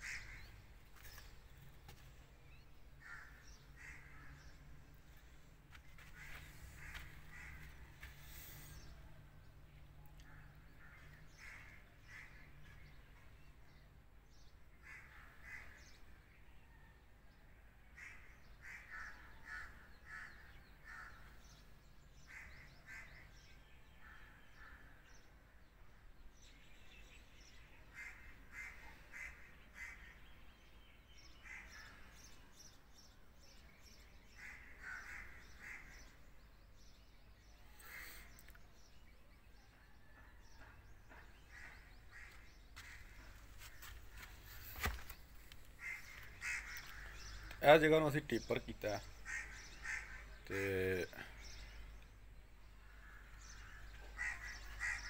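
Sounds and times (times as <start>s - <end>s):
faint birds calling: 0.0s - 55.0s.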